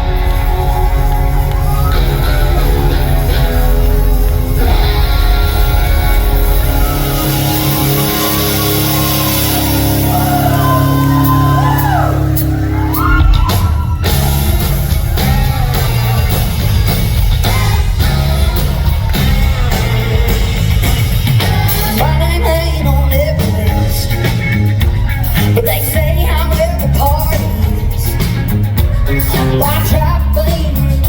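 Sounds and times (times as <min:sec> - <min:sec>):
crowd yells and whoops: 0:00.0 - 0:22.2, 0:24.1 - 0:30.9
drums hitting: 0:00.0 - 0:22.4, 0:23.1 - 0:31.0
live country-rock band: 0:00.0 - 0:31.0.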